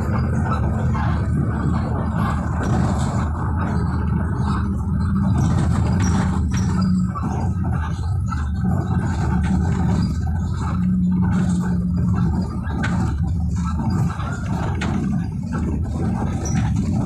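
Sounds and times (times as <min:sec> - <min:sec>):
bus engine and road drone: 0:00.0 - 0:17.0
hum: 0:00.0 - 0:17.0.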